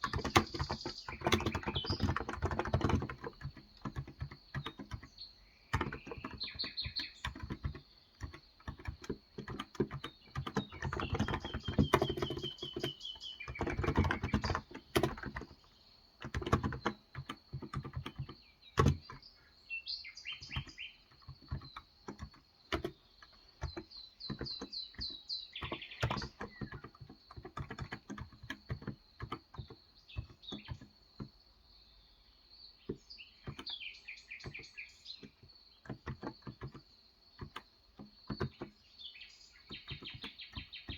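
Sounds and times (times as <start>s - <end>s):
keyboard typing: 0.0s - 19.4s, 20.3s - 31.4s, 32.9s - 33.8s, 34.4s - 38.9s, 39.5s - 40.9s
birds chirping and trilling: 0.0s - 40.9s.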